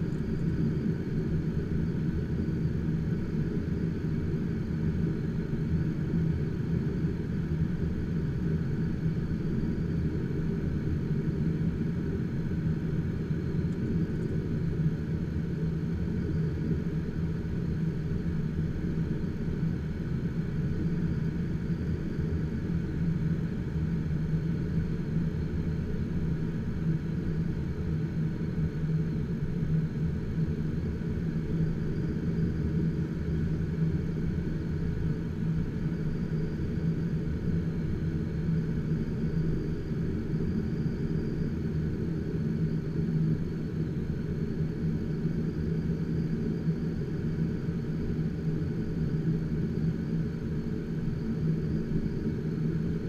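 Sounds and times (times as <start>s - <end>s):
aircraft engine droning: 0.0s - 53.0s.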